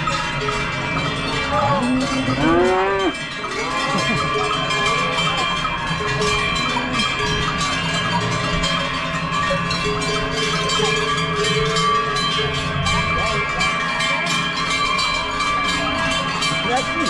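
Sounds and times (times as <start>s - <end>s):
cowbells clanging: 0.0s - 17.0s.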